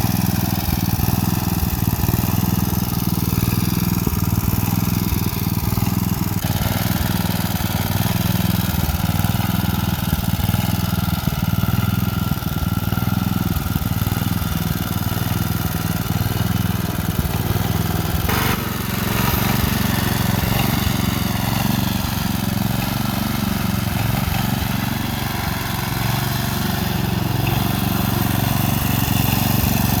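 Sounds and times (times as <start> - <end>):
riding mower engine running: 0.0 - 30.0.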